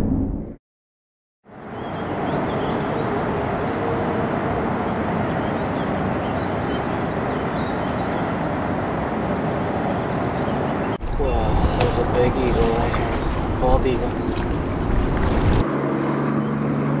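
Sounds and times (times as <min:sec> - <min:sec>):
rushing hum: 0:01.5 - 0:17.0.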